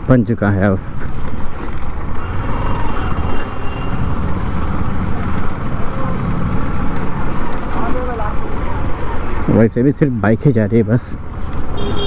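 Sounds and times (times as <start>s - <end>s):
road noise on dirt road: 0.0s - 12.0s
street traffic: 0.0s - 12.0s.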